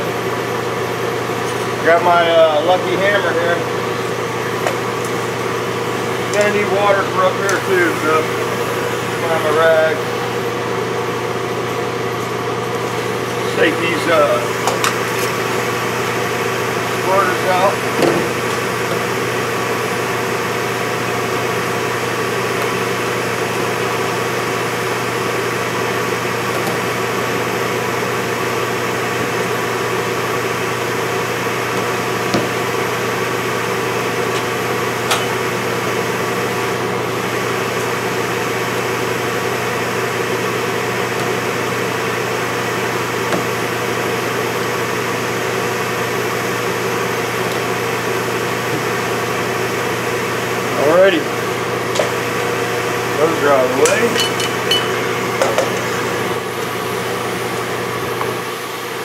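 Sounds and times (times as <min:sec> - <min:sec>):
shop machinery hum: 0:00.0 - 0:59.0.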